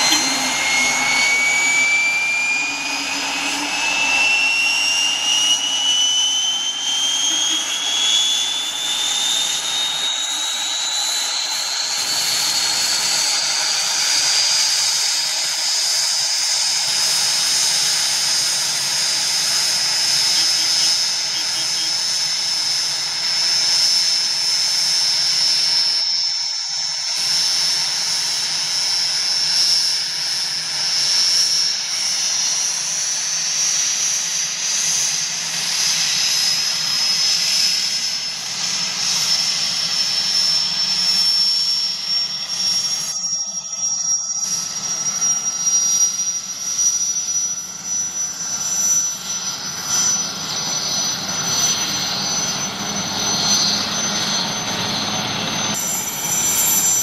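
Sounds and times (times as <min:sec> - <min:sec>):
helicopter turbine whine: 0:00.0 - 0:57.0
low rotor hum: 0:00.0 - 0:57.0.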